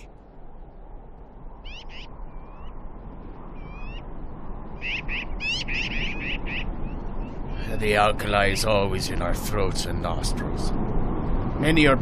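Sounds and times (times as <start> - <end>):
wind blowing: 0.0 - 12.0.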